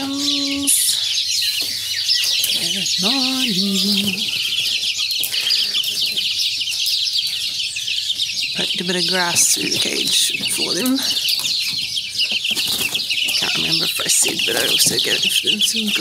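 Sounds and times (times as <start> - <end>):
chicks cheeping: 0.0 - 16.0.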